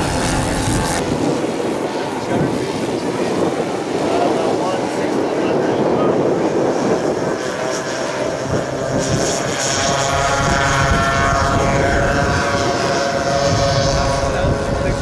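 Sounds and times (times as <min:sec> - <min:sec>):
model airplane propeller engine: 0:00.0 - 0:15.0.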